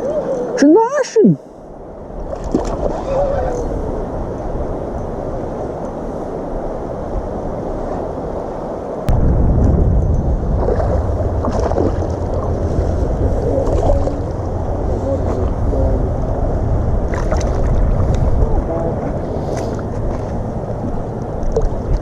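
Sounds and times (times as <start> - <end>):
wind buffeting microphone: 1.6 - 22.0.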